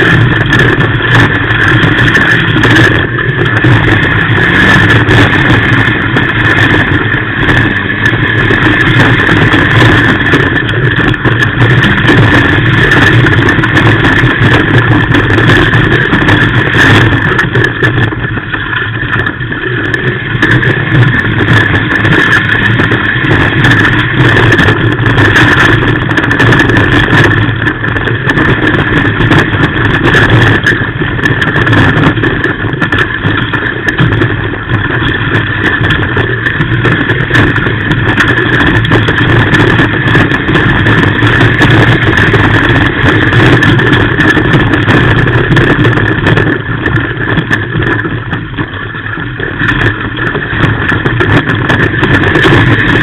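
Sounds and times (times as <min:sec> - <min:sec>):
race car engine running hard: 0:00.0 - 0:53.0
road and chassis noise: 0:00.0 - 0:53.0.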